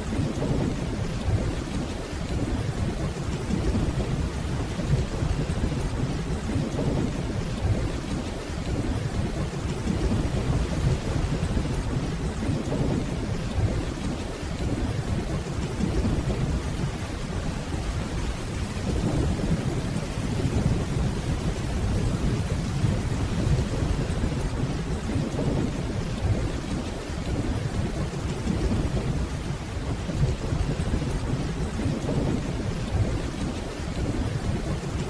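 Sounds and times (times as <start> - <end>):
distant thunder rumble: 0.0 - 35.0
steady rainfall: 0.0 - 35.0.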